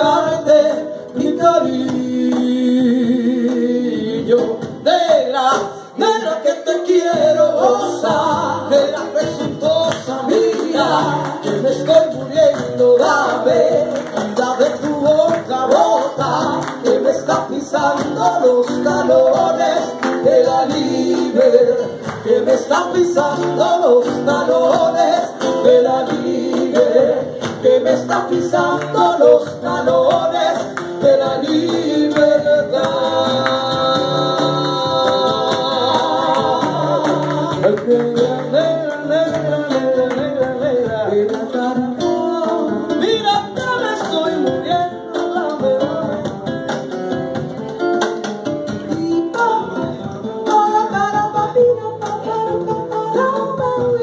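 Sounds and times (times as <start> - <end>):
women singing: 0.0 - 46.4, 48.9 - 54.0
acoustic guitar: 0.0 - 54.0
congas: 0.0 - 54.0.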